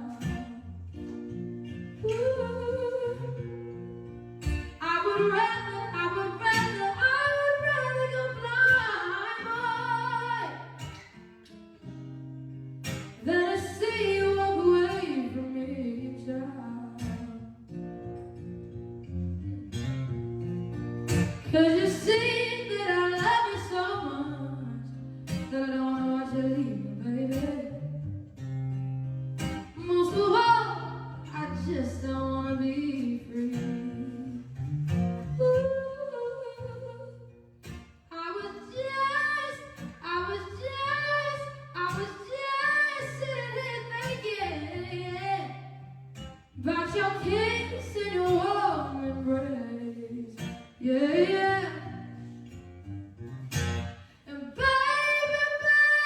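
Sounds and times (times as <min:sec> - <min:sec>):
woman singing: 0:00.0 - 0:00.8, 0:01.6 - 0:11.2, 0:12.8 - 0:18.2, 0:21.1 - 0:28.2, 0:29.4 - 0:52.3, 0:54.2 - 0:56.0
guitar: 0:00.0 - 0:56.0.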